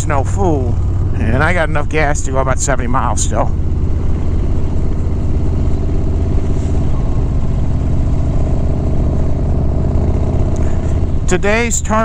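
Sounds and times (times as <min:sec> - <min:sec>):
motorcycle engine cruising: 0:00.0 - 0:12.0
road and wind noise: 0:00.0 - 0:12.0.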